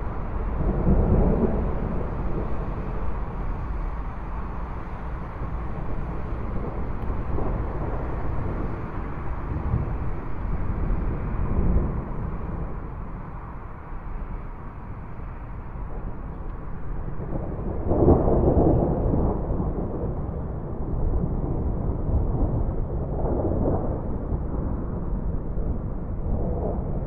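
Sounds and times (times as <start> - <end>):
rolling thunder: 0.0 - 27.0.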